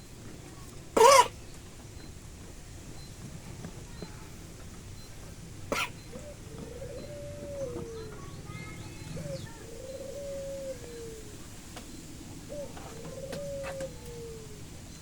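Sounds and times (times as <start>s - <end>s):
dove cooing: 0.0s - 2.0s, 3.9s - 15.0s.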